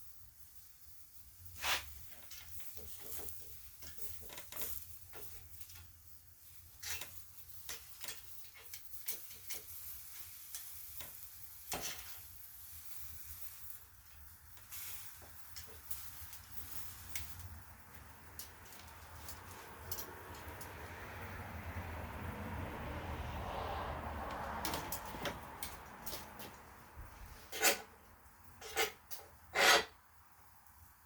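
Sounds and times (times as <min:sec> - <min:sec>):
grill crackling and sizzling: 0:00.0 - 0:31.0.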